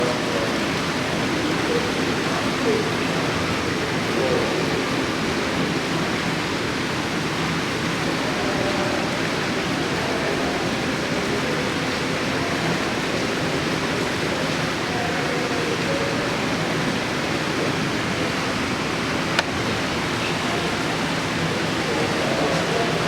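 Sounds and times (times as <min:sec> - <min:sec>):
background hubbub: 0:00.0 - 0:23.0
murmur of distant voices: 0:00.0 - 0:23.0.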